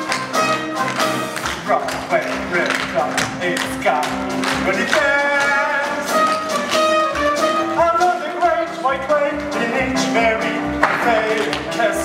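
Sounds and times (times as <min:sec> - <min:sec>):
jazz dance music: 0:00.0 - 0:12.0.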